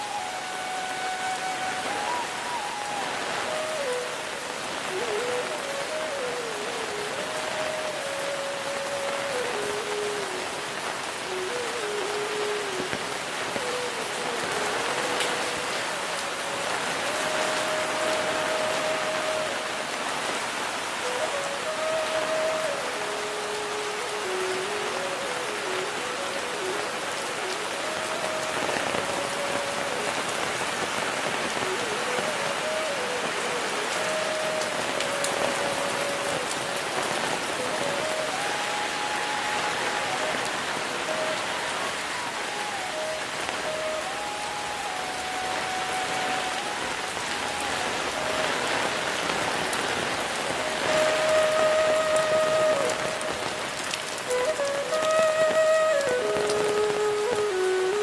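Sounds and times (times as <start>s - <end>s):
heavy rain falling: 0.0s - 58.0s
slow melody of held notes: 0.0s - 58.0s.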